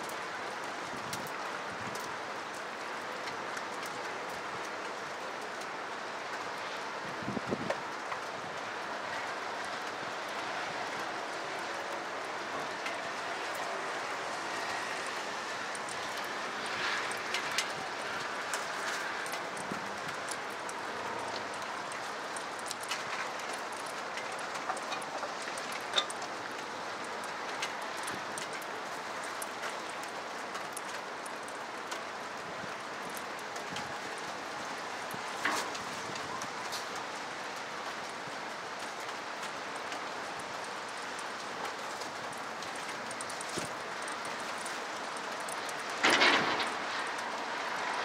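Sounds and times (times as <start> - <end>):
steady rain hiss: 0.0 - 48.0.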